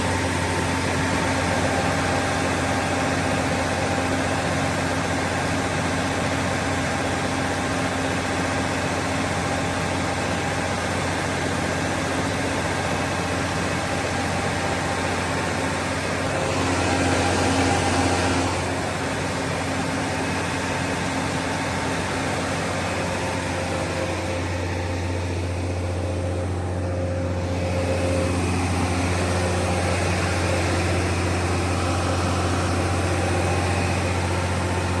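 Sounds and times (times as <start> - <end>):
diesel generator humming: 0.0 - 35.0.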